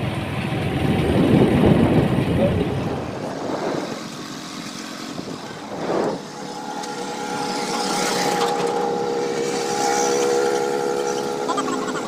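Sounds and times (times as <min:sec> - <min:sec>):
wind rushing over microphone: 0:00.0 - 0:09.8.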